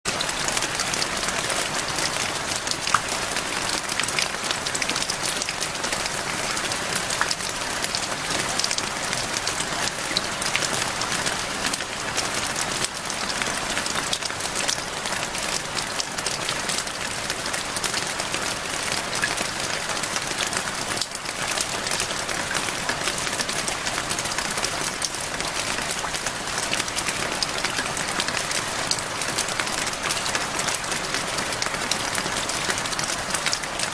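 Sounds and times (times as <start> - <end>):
rain on hard surface: 0.0 - 33.9.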